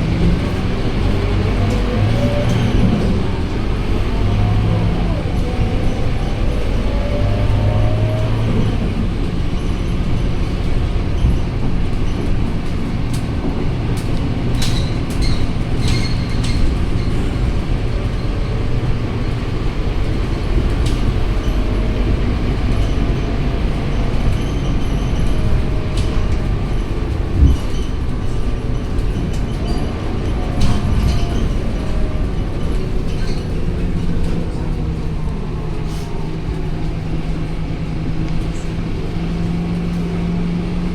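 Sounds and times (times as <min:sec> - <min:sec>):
bus engine and road rumble: 0:00.0 - 0:40.9.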